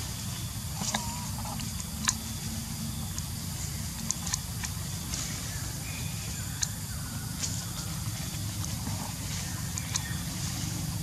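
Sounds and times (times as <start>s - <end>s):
dry leaves and twigs crackling: 0.0s - 11.0s
steady low rumble: 0.0s - 11.0s.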